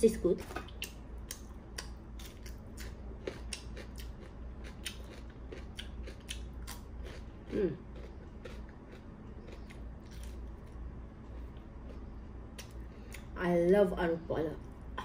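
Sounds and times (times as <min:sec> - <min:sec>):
cucumber crunching chewing: 0:00.6 - 0:13.3.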